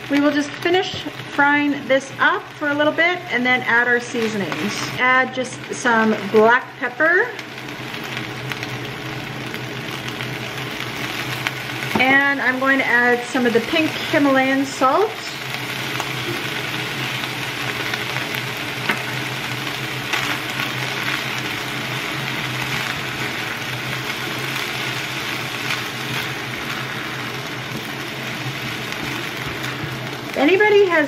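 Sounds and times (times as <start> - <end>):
rice sizzling in a pan: 0.0 - 31.0.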